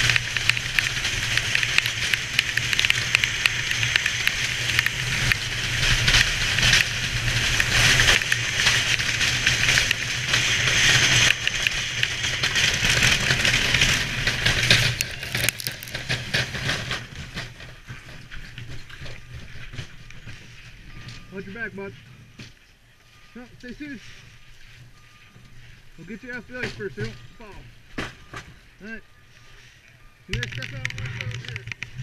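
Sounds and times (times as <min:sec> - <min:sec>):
bobsled runners scraping ice: 0:00.0 - 0:32.0.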